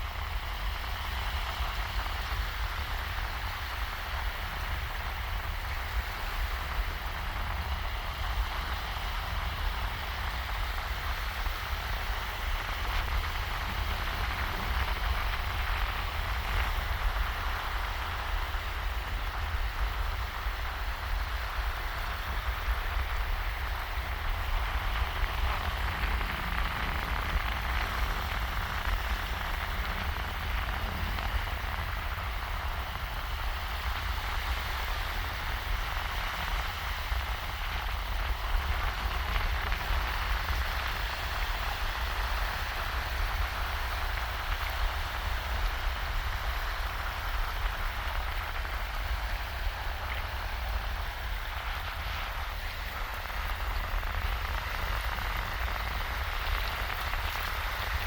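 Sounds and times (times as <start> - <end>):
low rumble of breeze: 0.0 - 58.0.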